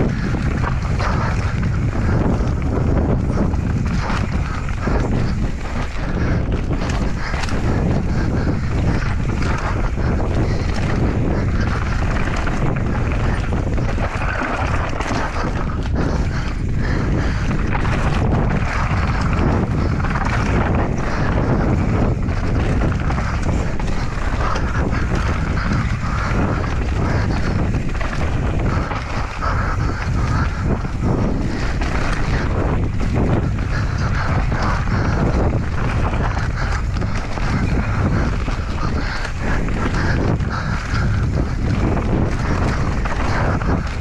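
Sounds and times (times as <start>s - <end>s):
bike knocking and clattering: 0.0s - 44.0s
tyres rumbling over ground: 0.0s - 44.0s
wind rushing over microphone: 0.0s - 44.0s.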